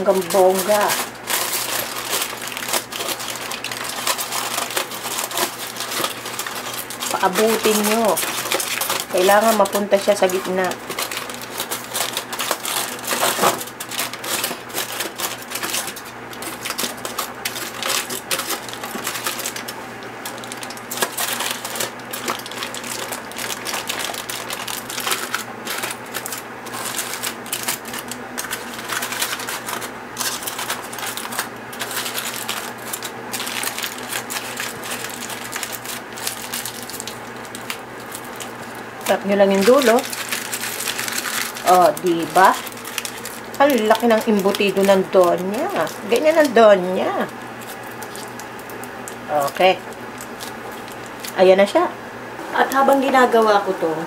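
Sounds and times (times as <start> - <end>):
aluminum foil crinkling: 0.0 - 51.9, 52.6 - 54.0.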